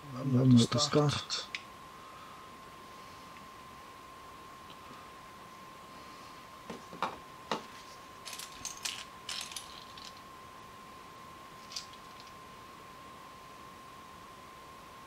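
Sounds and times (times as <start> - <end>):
faint steady tone: 0.0 - 15.0.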